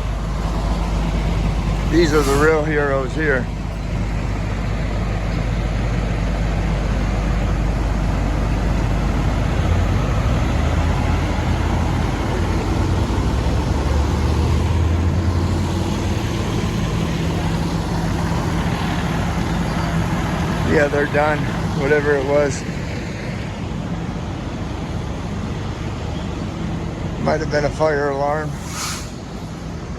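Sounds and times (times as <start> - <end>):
vehicle engine running: 0.0 - 29.9.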